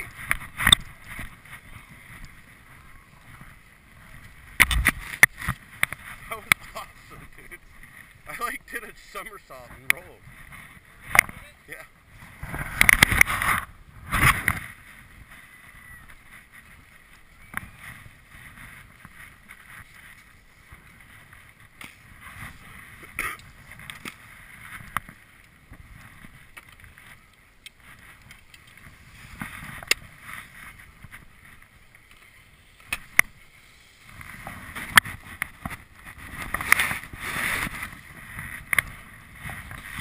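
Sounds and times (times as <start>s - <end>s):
ski and poles clicking and knocking: 0.0s - 40.0s.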